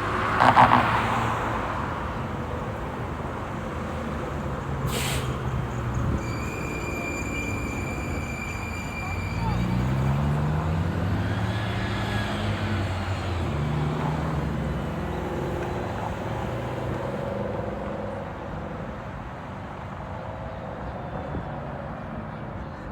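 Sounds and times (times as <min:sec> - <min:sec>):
road roar: 0:00.0 - 0:22.9.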